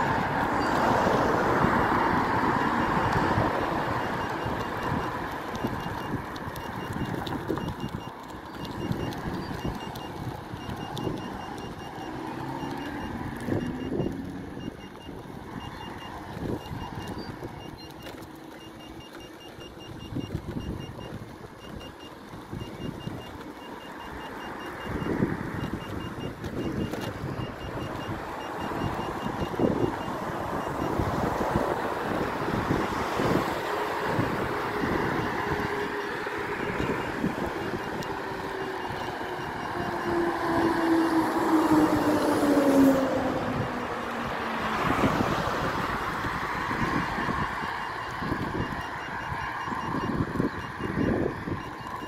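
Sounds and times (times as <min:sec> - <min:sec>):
wind noise: 0:00.0 - 0:18.1, 0:19.7 - 0:52.0
electric unicycle beeping: 0:00.0 - 0:52.0
passing traffic: 0:00.0 - 0:52.0.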